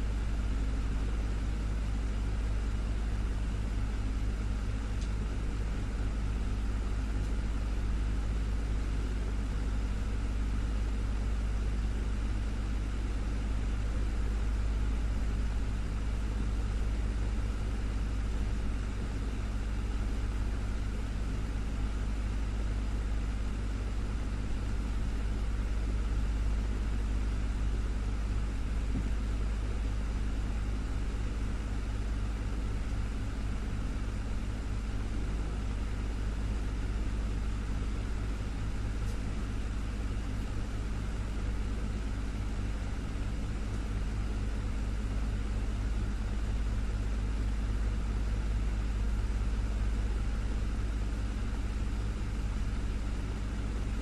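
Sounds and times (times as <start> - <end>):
desktop fan running: 0.0 - 54.0.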